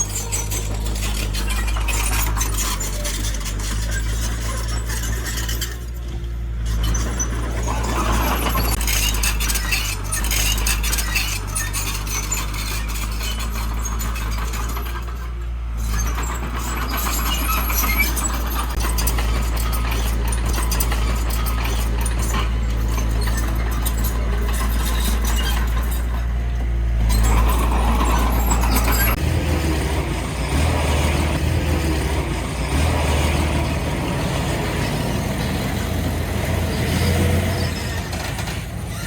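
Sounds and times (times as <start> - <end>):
squeaks: 0.0 - 31.4, 32.0 - 39.0
heavy machinery diesel engine: 0.0 - 39.0.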